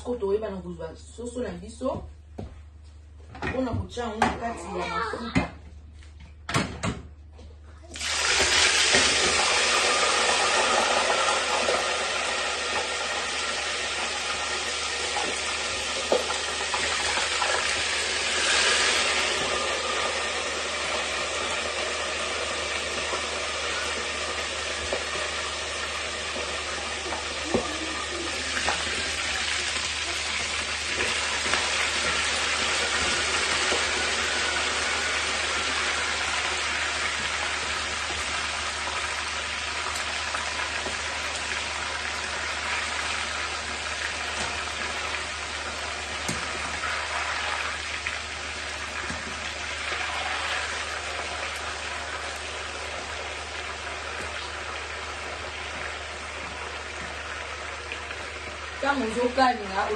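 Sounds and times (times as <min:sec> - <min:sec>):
chicken sizzling in hot oil: 0:07.9 - 0:59.9.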